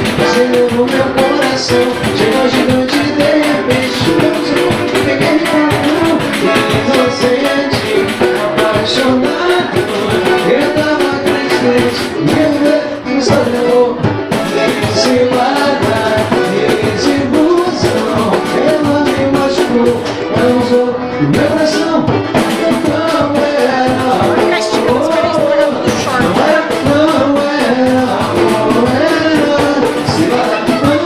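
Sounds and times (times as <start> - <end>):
percussion strokes: 0.0 - 31.0
person singing: 0.0 - 31.0
samba band playing: 0.0 - 31.0.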